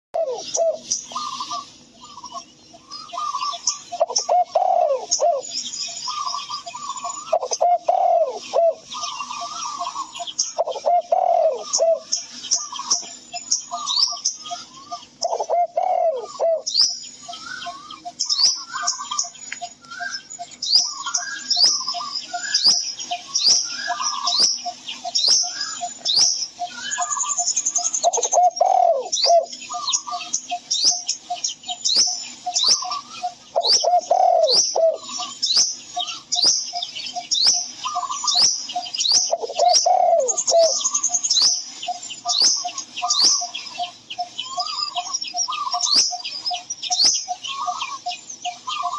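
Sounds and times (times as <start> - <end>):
bird cooing call: 0.2 - 48.9
birds chirping high: 0.2 - 48.9.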